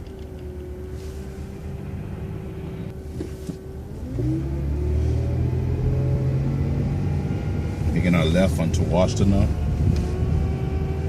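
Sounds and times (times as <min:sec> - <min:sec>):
bus engine running and pulling away: 0:00.0 - 0:11.0.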